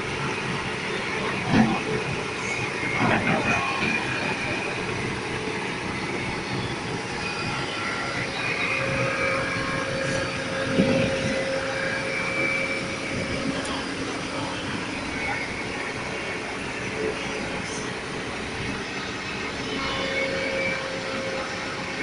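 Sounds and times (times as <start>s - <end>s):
heavy vehicle engines running: 0.0s - 22.0s
faint steady whine: 3.9s - 22.0s.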